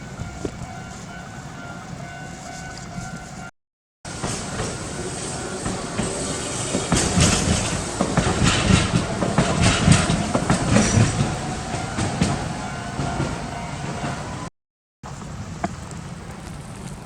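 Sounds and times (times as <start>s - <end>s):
streetcar wheels clacking on rails: 0.0s - 3.5s, 4.1s - 14.5s.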